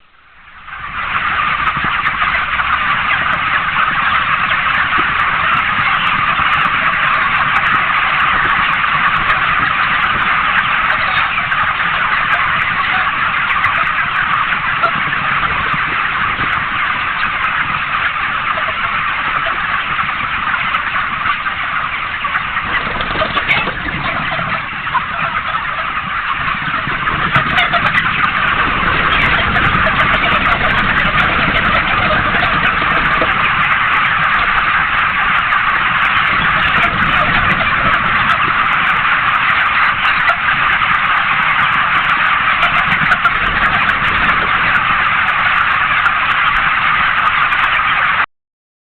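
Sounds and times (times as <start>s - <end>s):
chickens clucking: 0.0s - 48.3s.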